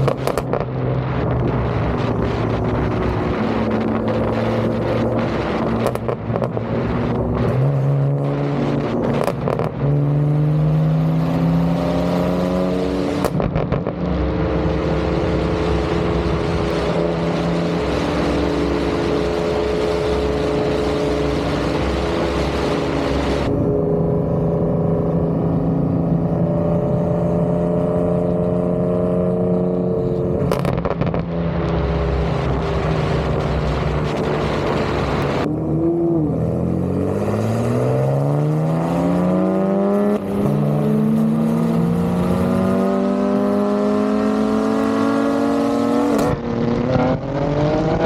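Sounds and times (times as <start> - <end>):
car engine through exhaust: 0.0 - 48.0.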